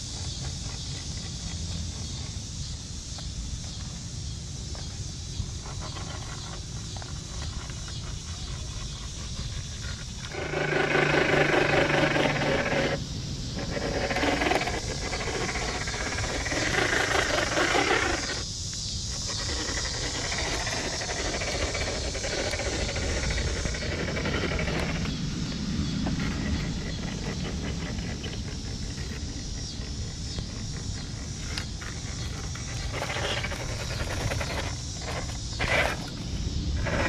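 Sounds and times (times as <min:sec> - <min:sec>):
toy truck motor whirring: 0:05.6 - 0:25.1, 0:26.1 - 0:37.0.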